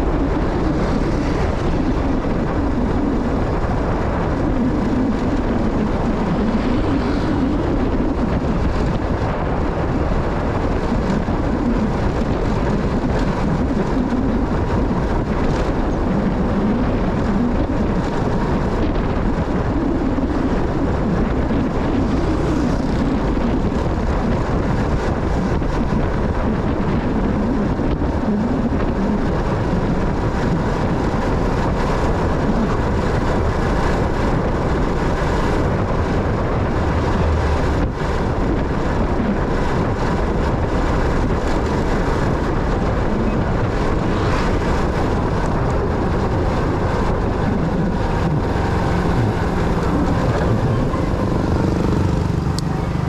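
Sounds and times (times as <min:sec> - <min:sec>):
motorcycle engine drone: 0:00.0 - 0:53.0
road and wind noise: 0:00.0 - 0:53.0.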